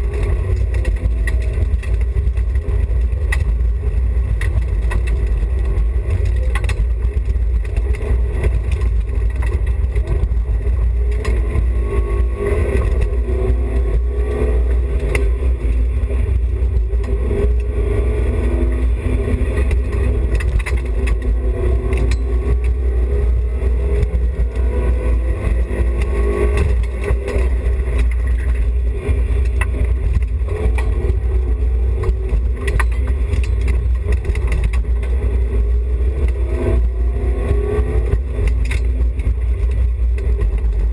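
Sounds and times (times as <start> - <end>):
heavy rumble: 0.0 - 40.9
rally car engine revving: 0.0 - 40.9.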